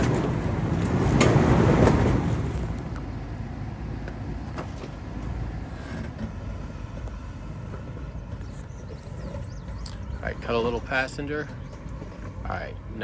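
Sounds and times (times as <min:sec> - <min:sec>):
engine running low: 0:00.0 - 0:13.0.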